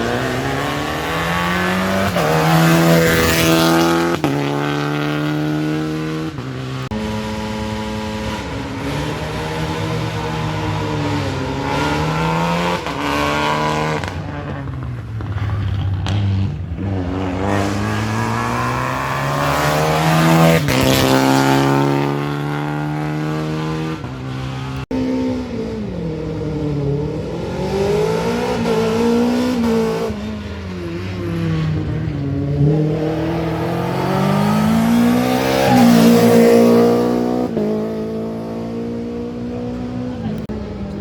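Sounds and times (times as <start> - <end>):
rally car engine revving: 0.0 - 41.0.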